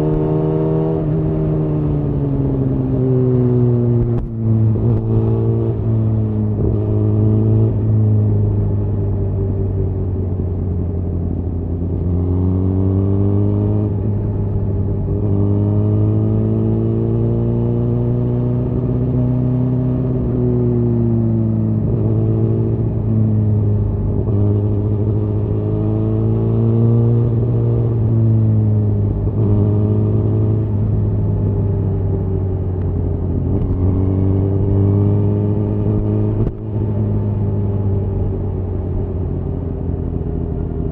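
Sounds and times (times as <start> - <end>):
motorcycle engine at moderate revs: 0.0 - 40.9.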